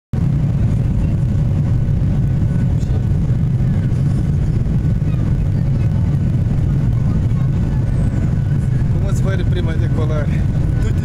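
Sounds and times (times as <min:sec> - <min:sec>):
jet engines rumbling: 0:00.2 - 0:11.0
rushing air: 0:00.2 - 0:11.0.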